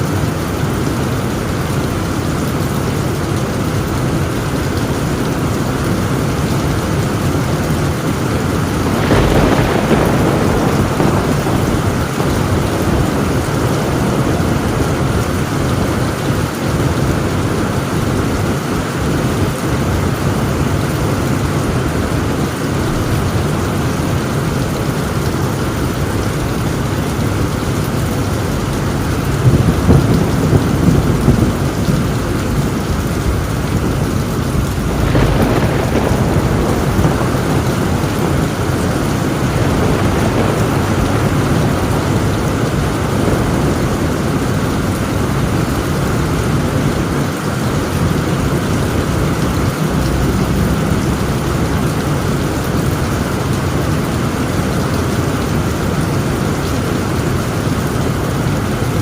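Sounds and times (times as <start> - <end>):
heavy rain on a tin roof: 0.0 - 59.0
thunder rumbling: 0.0 - 59.0.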